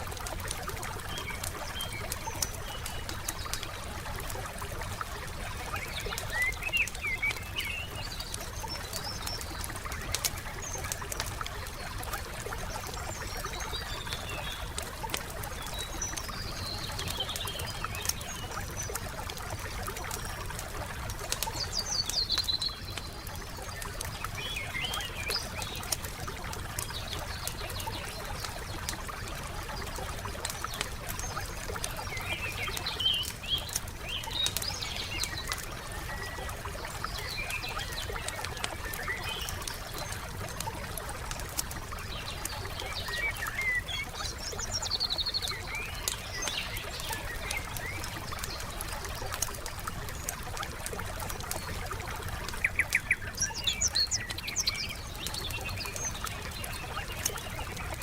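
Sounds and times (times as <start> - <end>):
campfire crackling: 0.0 - 58.0
songbirds chirping: 0.1 - 58.0.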